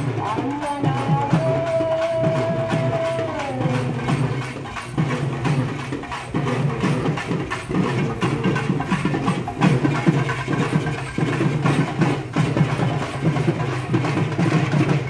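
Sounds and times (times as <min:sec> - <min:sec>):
dense irregular drum strokes: 0:00.0 - 0:15.0.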